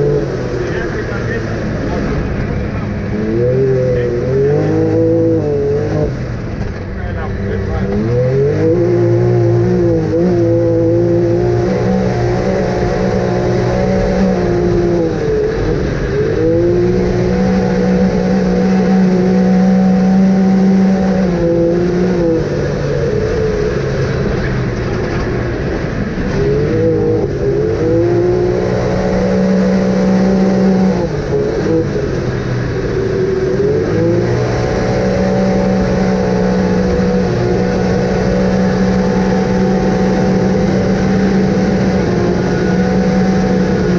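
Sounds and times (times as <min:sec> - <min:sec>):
off-road vehicle engine revving: 0:00.0 - 0:43.9.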